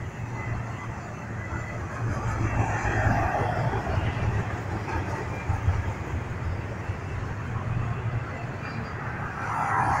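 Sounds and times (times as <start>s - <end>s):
freight train rolling on rails: 0.0s - 10.0s
highway traffic passing: 0.0s - 10.0s.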